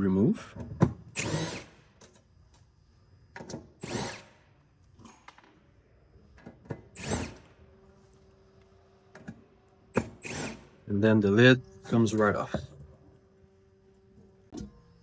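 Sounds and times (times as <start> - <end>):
power driver whirring: 1.0 - 2.4, 3.4 - 5.4, 6.3 - 15.0.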